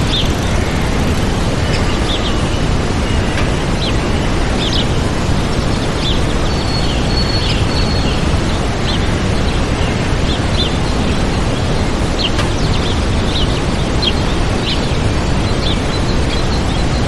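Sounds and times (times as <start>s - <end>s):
small birds chirping: 0.0s - 17.0s
waterfall rushing: 0.0s - 17.0s.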